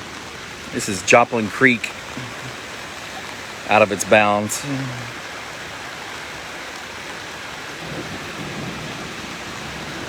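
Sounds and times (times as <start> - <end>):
rushing floodwater: 0.0 - 10.0.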